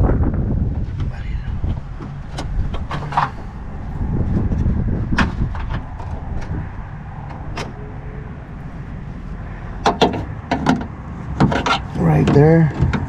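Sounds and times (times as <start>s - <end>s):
steady low rumble: 0.0s - 12.2s.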